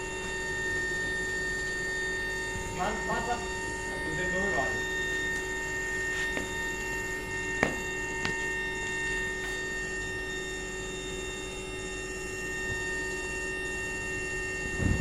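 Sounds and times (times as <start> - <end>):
furnace electrical hum: 0.0 - 15.0.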